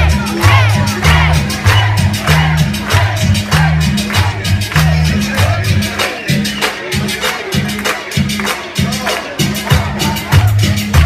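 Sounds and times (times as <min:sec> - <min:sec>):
loud dance music: 0:00.0 - 0:11.0.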